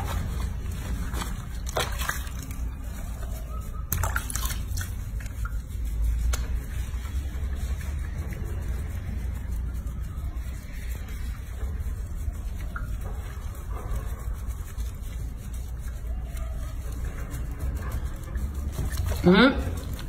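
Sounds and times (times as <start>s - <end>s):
soapy water sloshing: 0.0s - 20.0s.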